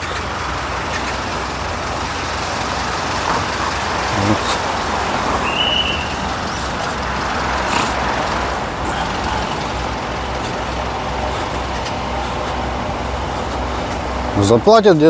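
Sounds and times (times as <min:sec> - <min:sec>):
heavy vehicle engine rumble: 0:00.0 - 0:15.0
road traffic: 0:00.0 - 0:15.0.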